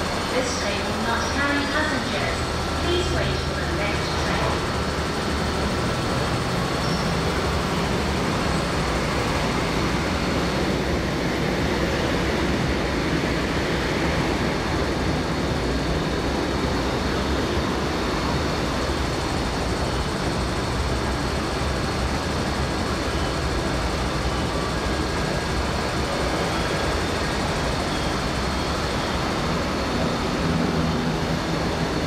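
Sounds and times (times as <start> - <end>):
train rushing through station: 0.0 - 32.0.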